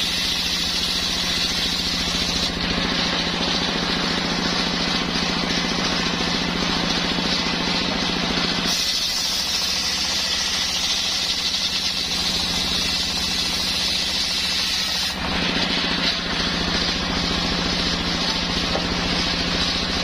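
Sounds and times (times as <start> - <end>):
circular saw cutting wood: 0.0 - 20.0
engine running: 0.0 - 20.0.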